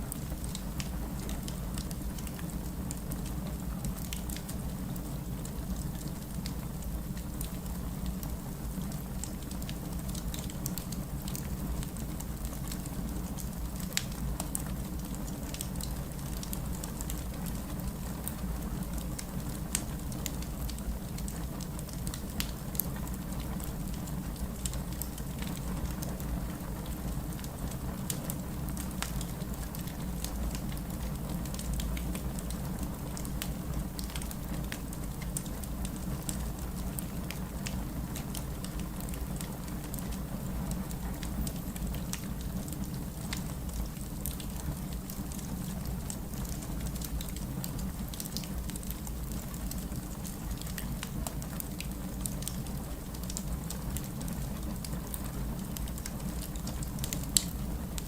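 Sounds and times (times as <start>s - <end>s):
fireplace crackling and popping: 0.0s - 58.0s
steady rain: 0.0s - 58.0s.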